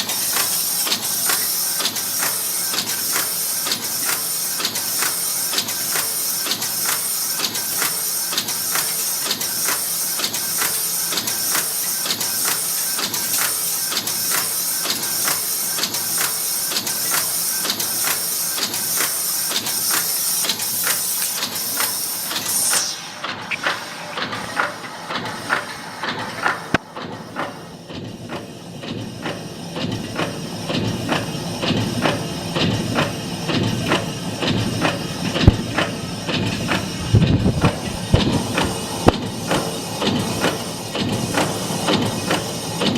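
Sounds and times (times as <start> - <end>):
machine strokes in steady rhythm: 0.0 - 42.9.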